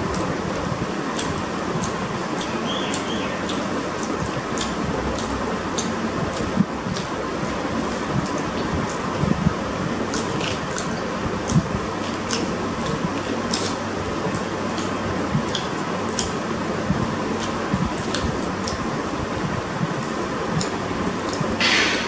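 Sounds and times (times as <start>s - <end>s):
chewing and lip smacks: 0.0s - 9.0s, 10.0s - 18.9s, 19.8s - 21.6s.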